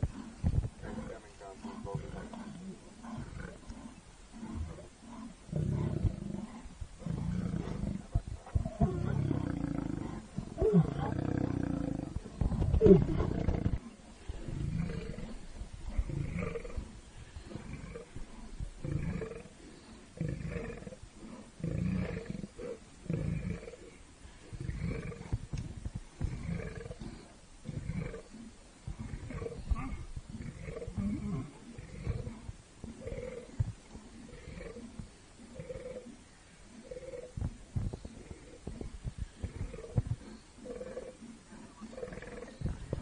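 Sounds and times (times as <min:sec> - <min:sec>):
lions roaring and grunting: 0:00.0 - 0:43.0.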